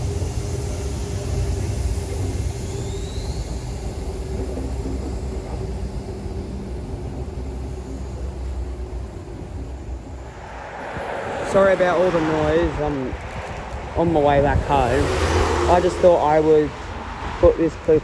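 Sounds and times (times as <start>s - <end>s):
faint steady hum: 0.0s - 17.8s
train rumble on board: 0.0s - 18.0s
brief rising whine: 0.7s - 17.5s.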